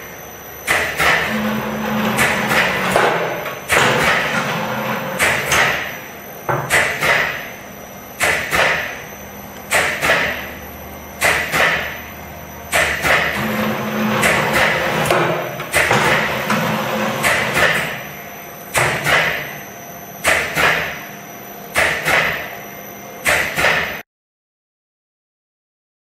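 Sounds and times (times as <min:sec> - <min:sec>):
low machine hum: 0:00.0 - 0:23.3
machine double clack: 0:00.6 - 0:19.6, 0:20.2 - 0:21.0, 0:21.7 - 0:22.6, 0:23.2 - 0:24.0.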